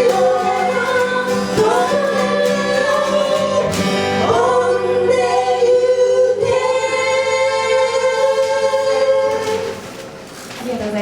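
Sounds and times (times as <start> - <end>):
singers in unison: 0.0 - 9.8.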